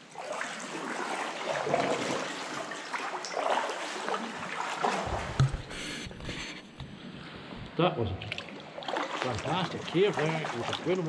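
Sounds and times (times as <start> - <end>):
water splashing around kayak: 0.0 - 11.0.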